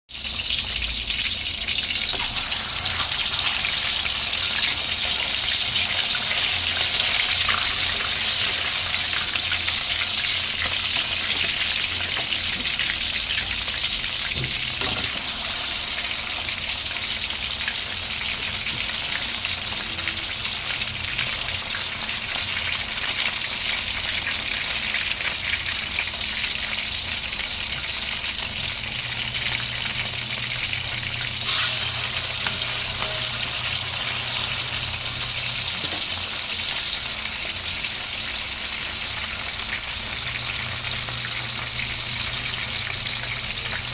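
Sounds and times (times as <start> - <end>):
chicken deep-frying in oil: 0.1 - 43.9.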